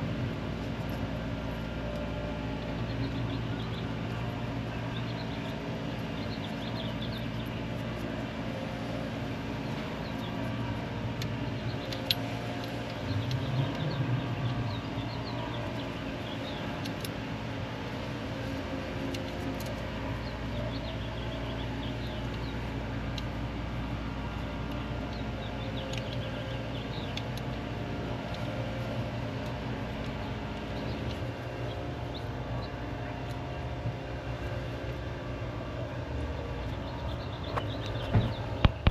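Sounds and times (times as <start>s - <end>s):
birds chirping faintly: 0.5s - 38.9s.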